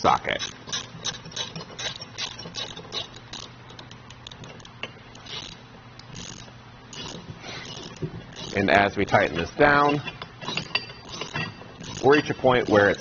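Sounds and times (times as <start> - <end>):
ratchet wrench clicking: 0.3 - 13.0.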